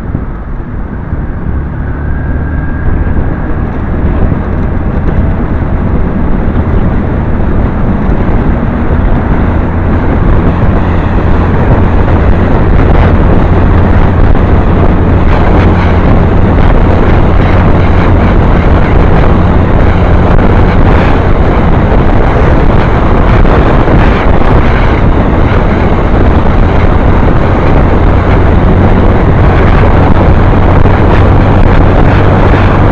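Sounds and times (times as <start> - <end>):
motorbike engine droning: 0.0 - 32.9
wind rushing over microphone: 0.0 - 32.9.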